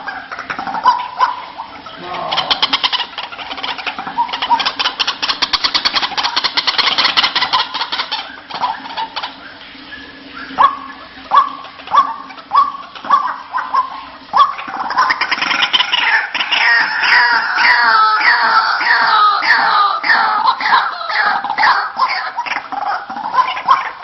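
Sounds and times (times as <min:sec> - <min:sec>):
waterhen harsh repeated calls: 0:00.0 - 0:24.0.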